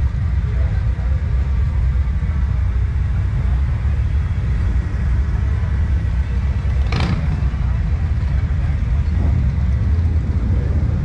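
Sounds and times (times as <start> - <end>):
motorcycle engines rumbling: 0.0 - 11.0.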